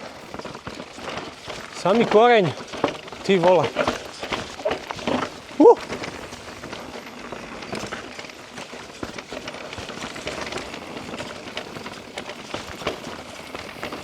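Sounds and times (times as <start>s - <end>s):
bike knocks and rattles: 0.0s - 14.0s
bike tyres on dirt: 0.0s - 14.0s.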